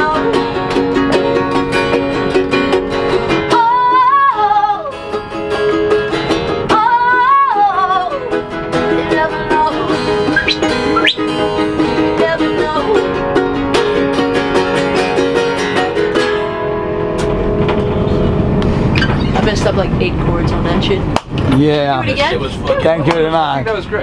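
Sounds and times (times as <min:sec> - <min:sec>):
ukulele and guitar strumming: 0:00.0 - 0:19.7.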